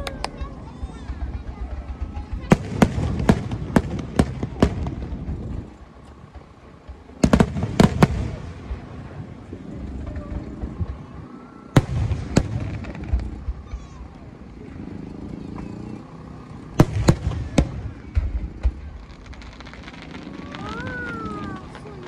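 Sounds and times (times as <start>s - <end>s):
fireworks bangs: 0.0s - 22.0s
low rumble: 0.0s - 22.0s.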